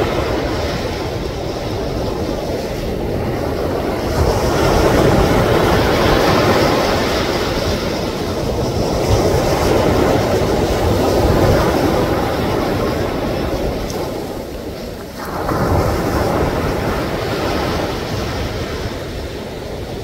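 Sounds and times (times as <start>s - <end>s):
ocean waves breaking on beach: 0.0s - 20.0s.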